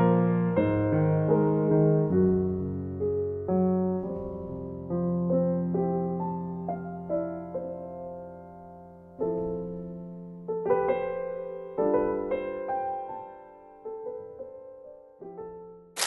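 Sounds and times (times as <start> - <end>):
piano music: 0.0 - 15.8.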